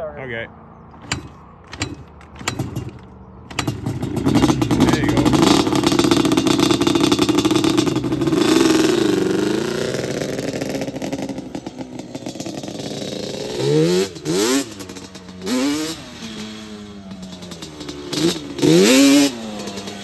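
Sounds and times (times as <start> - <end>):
two-stroke quad engine revving: 0.9 - 20.0.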